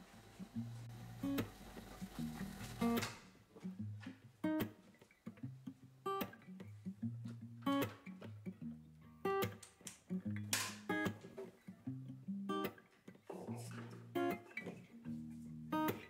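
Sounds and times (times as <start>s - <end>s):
plucked acoustic guitar: 0.0s - 16.0s.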